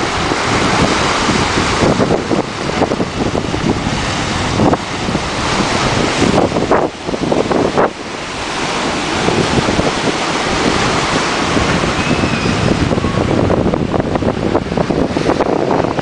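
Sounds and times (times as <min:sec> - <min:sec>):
surf washing around rocks: 0:00.0 - 0:16.0
wind buffeting microphone: 0:00.0 - 0:16.0.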